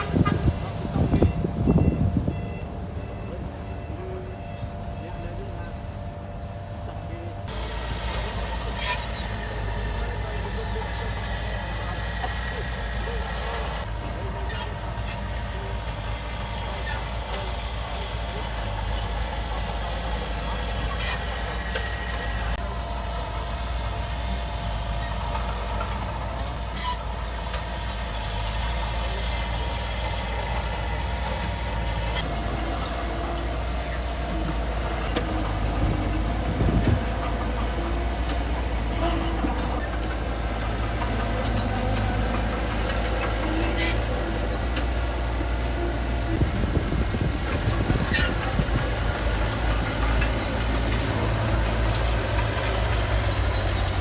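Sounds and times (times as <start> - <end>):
earthmoving machinery engine drone: 0.0 - 54.0
metallic squeaks and clanks: 7.8 - 22.6, 24.9 - 54.0.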